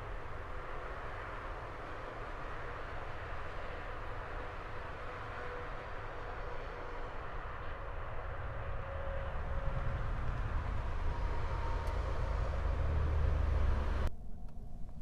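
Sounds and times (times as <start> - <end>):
distant vehicle rumble: 0.0 - 15.0.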